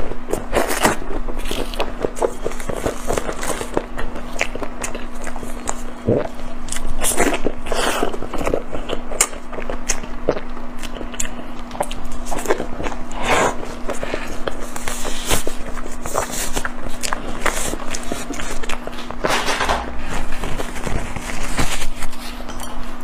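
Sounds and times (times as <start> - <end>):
person chewing food: 0.0 - 23.0
steady low hum: 0.0 - 23.0.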